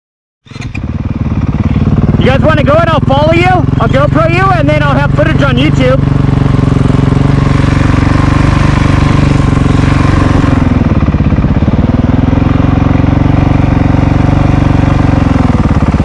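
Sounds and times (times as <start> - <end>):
dirt bike engine idling: 0.5 - 16.0.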